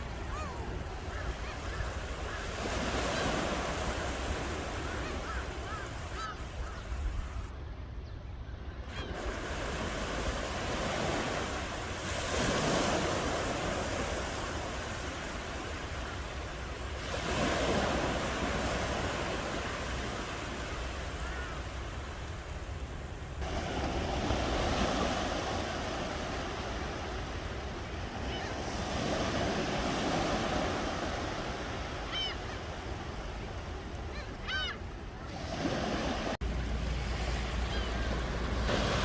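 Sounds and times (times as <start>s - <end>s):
ocean waves breaking: 0.0s - 7.5s, 8.8s - 39.0s
low rumble of surf: 0.0s - 39.0s.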